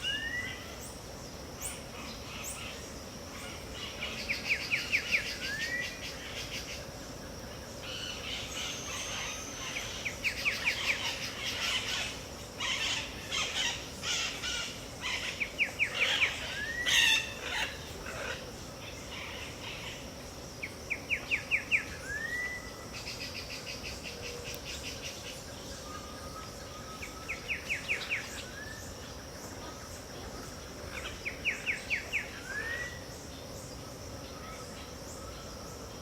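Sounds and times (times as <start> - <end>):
insect hiss: 0.0 - 36.0.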